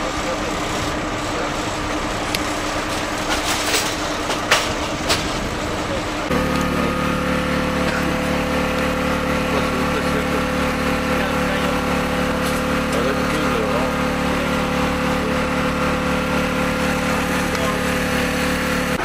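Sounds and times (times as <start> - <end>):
engines running: 0.0 - 19.0.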